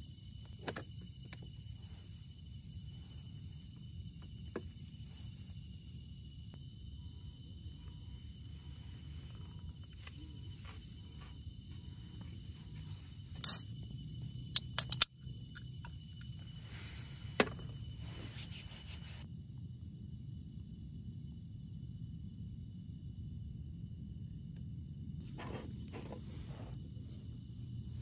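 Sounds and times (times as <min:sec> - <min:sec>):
insects trilling: 0:00.0 - 0:28.0
outdoor background hum: 0:00.0 - 0:28.0.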